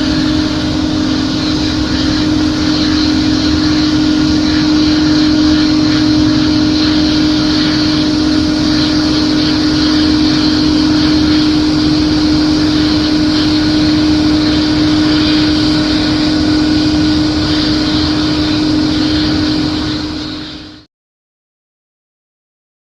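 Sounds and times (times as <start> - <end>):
jet engines running: 0.0 - 20.9.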